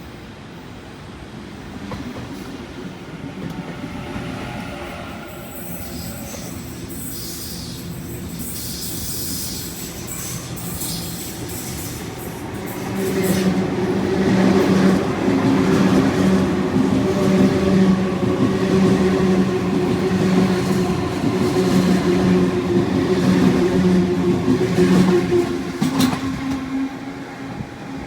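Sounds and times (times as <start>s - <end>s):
train passing close by: 0.0s - 28.0s.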